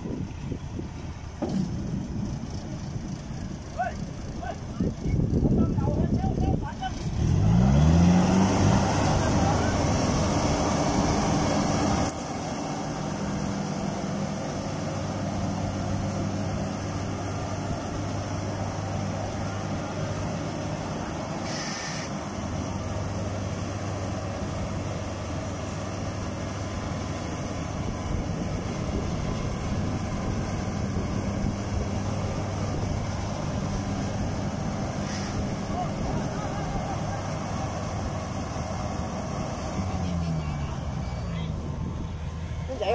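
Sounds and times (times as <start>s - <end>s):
diesel engines under load: 0.0s - 42.9s.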